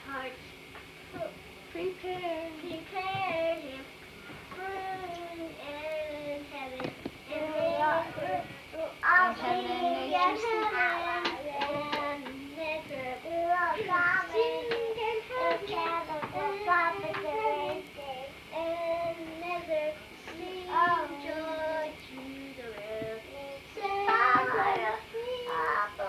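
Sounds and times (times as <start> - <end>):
girl singing unaccompanied: 1.1 - 26.0.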